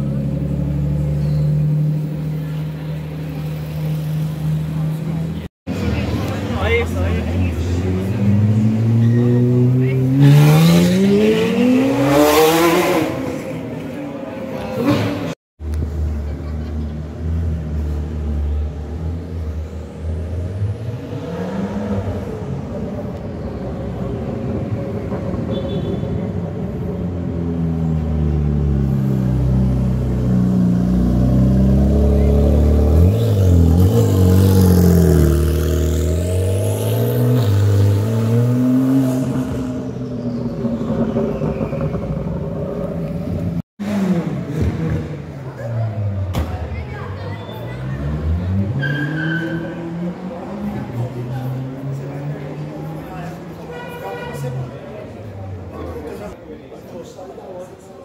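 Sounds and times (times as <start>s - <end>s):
sports car engines revving: 0.0s - 25.5s, 26.3s - 56.4s
street traffic: 0.0s - 58.0s.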